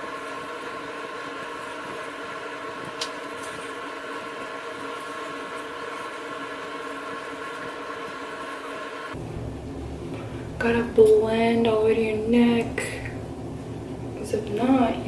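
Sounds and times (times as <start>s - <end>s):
mechanical hum over hiss: 0.0s - 15.0s.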